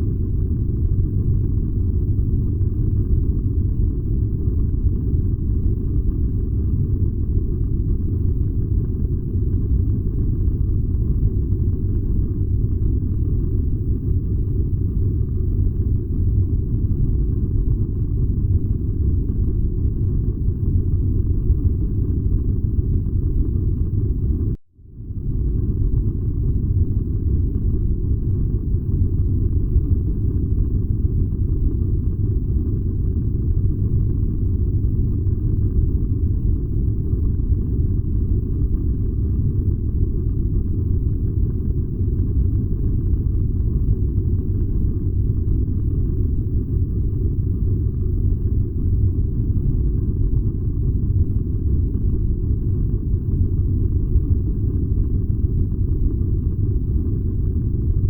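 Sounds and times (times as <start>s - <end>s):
furnace burning with deep rumble: 0.0s - 58.0s.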